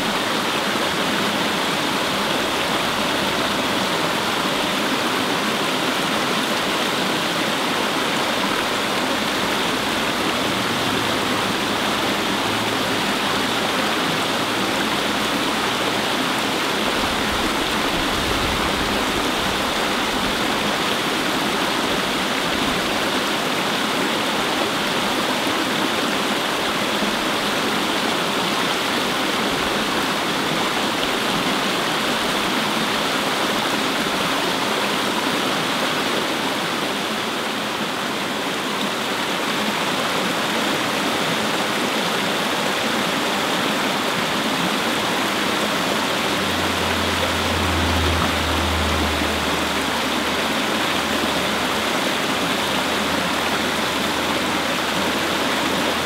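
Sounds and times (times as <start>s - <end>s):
stream babbling over stones: 0.0s - 56.0s.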